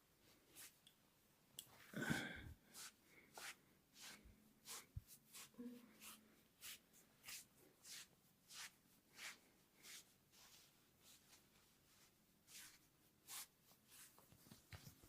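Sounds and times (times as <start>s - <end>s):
hands rubbing over hair: 0.5s - 0.9s, 2.7s - 15.0s.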